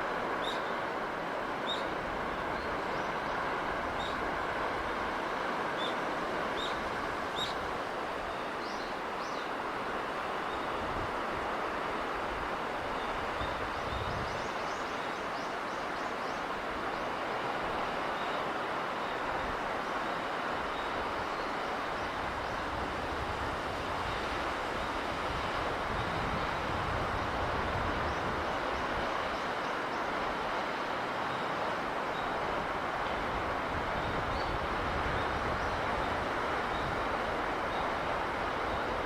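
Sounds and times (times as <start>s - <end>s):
sea breeze and surf rushing: 0.0s - 39.0s.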